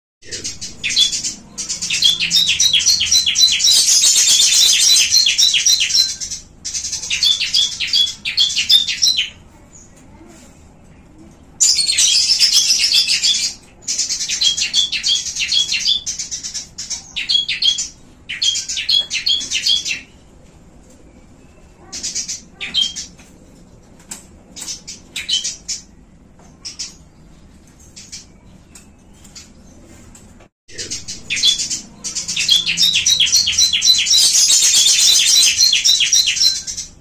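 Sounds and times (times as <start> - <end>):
caged small birds chirping: 0.2 - 37.0.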